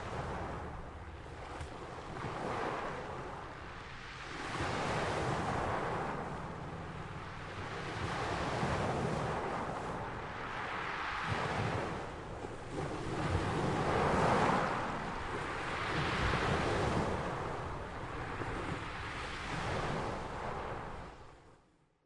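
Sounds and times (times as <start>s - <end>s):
waves breaking: 0.0s - 21.6s.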